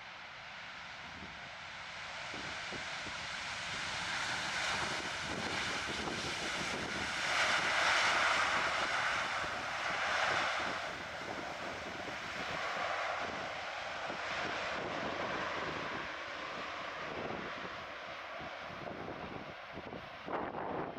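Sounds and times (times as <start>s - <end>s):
jet engine rush: 0.0s - 20.9s.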